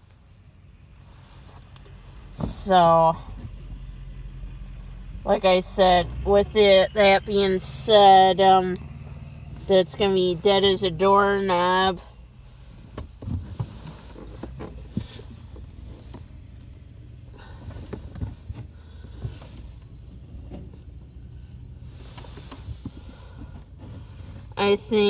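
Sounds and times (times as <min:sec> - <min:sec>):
vehicle idling: 0:00.0 - 0:25.0.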